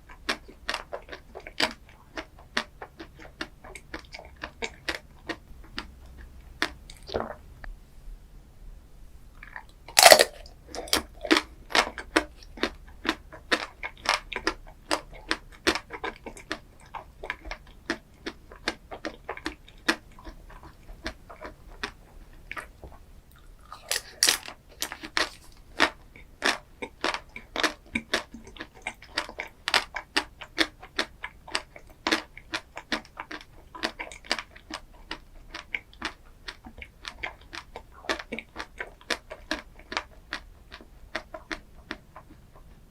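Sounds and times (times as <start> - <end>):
person chewing crunchy dessert: 0.0 - 7.4, 9.4 - 42.9.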